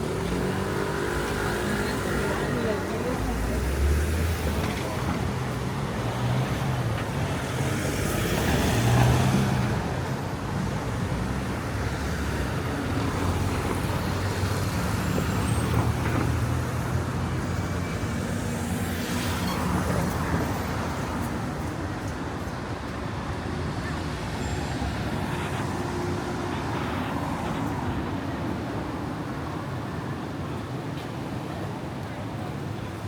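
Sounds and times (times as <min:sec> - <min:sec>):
vehicle engines passing: 0:00.0 - 0:33.0.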